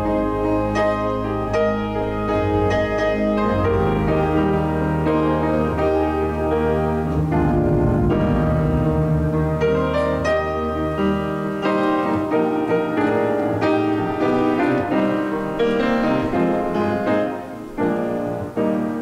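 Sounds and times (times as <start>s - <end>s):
slow keyboard music: 0.0s - 19.0s.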